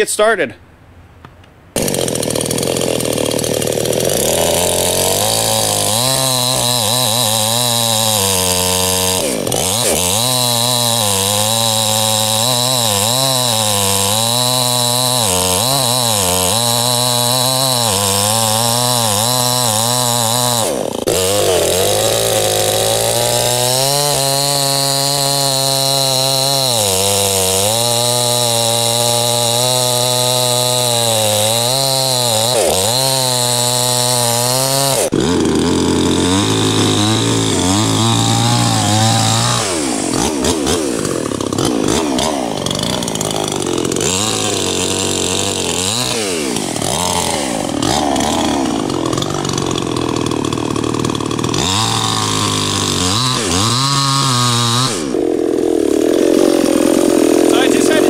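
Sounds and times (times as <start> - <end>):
chainsaw cutting wood: 1.3 - 58.0.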